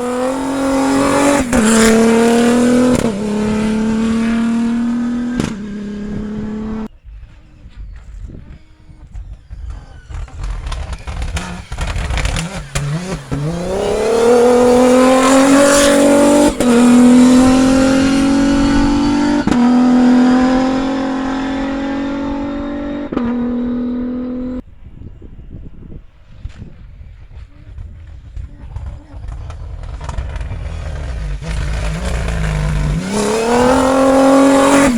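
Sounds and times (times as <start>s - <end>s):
race car engine at full throttle: 0.0s - 6.9s, 9.1s - 24.6s, 27.7s - 34.9s.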